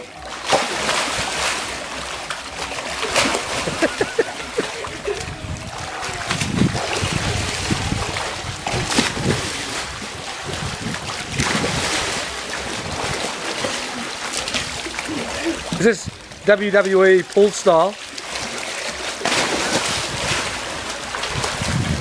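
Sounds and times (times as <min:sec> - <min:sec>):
pool water splashing: 0:00.0 - 0:22.0.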